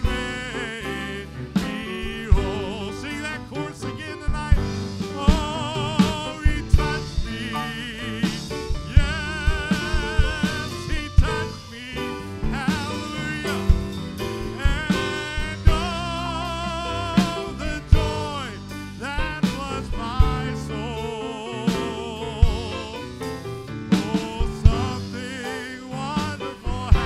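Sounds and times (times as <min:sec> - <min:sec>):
instrumental accompaniment with beat: 0:00.0 - 0:27.0
voices singing gospel: 0:00.0 - 0:27.0.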